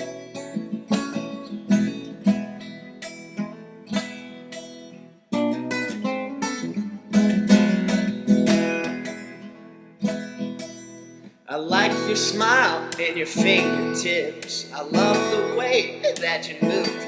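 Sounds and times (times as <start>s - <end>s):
acoustic guitar picking and strumming: 0.0s - 17.0s.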